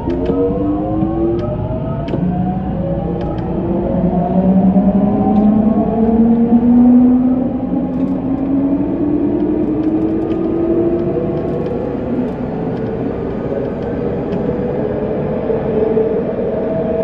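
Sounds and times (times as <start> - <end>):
electric train motor whine: 0.0 - 17.0
wheels rumbling on rail: 0.0 - 17.0.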